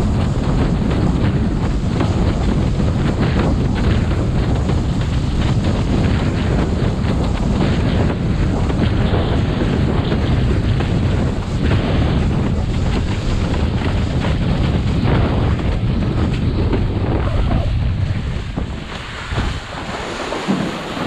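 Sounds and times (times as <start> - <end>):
water rushing and splashing: 0.0 - 21.0
wind buffeting microphone: 0.0 - 21.0.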